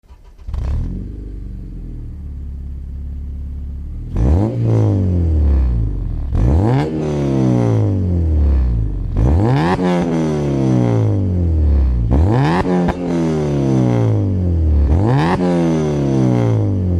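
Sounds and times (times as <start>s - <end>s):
car engine idling and revving: 0.0s - 16.9s.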